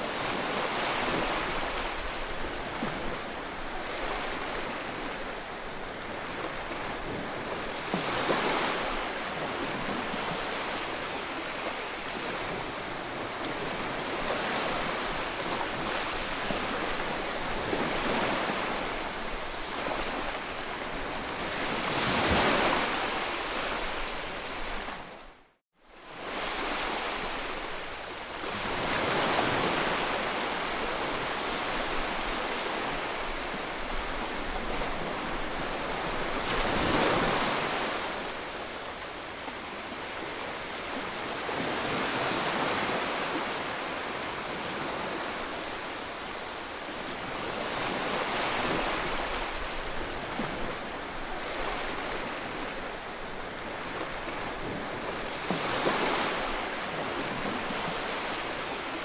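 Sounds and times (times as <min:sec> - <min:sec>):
ocean waves breaking: 0:00.0 - 0:25.2, 0:26.2 - 0:59.0.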